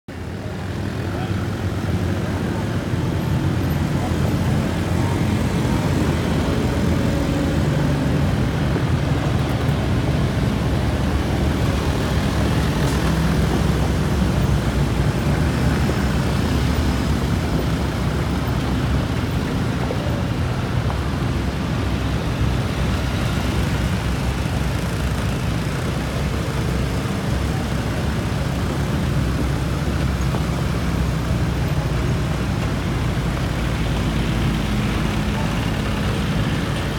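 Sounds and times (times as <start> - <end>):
many vehicle engines rumbling: 0.1 - 36.9.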